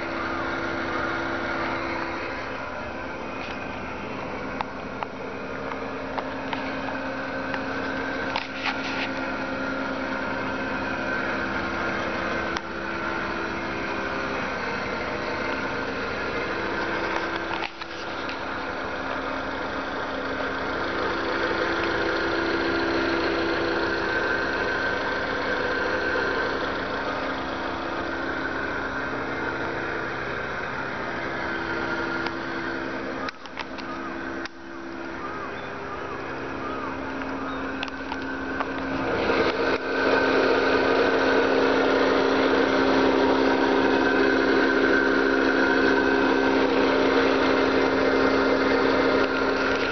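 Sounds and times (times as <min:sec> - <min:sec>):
van engine idling: 0:00.0 - 0:49.9.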